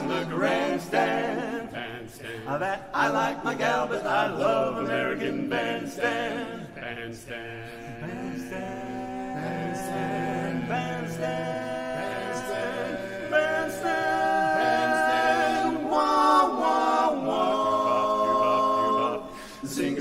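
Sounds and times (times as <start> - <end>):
quartet singing in close harmony: 0.0 - 20.0.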